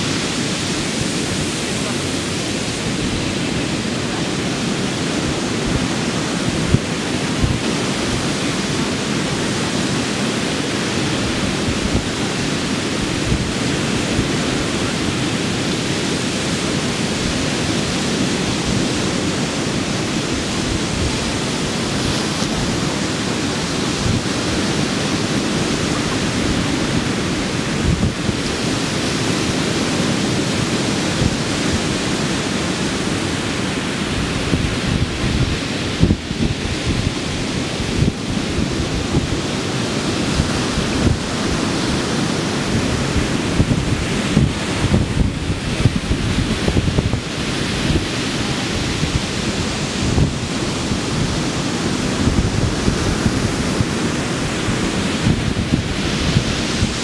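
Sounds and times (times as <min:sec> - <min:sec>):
surf washing up the beach: 0:00.0 - 0:57.0
wind rumble on microphone: 0:00.0 - 0:57.0.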